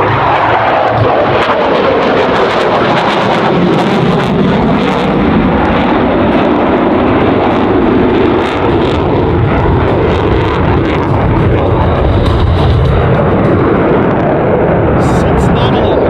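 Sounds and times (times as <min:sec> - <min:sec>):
jet engines passing by: 0:00.0 - 0:16.0.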